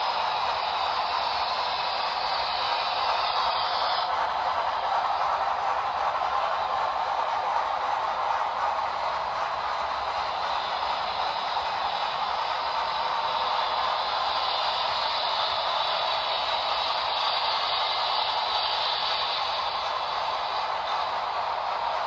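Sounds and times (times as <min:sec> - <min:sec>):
model train rolling on track: 0:00.0 - 0:22.0.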